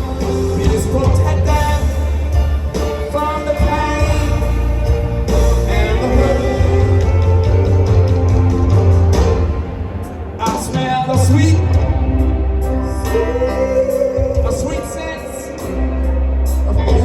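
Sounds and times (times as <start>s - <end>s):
rock music with singer: 0.0s - 17.0s.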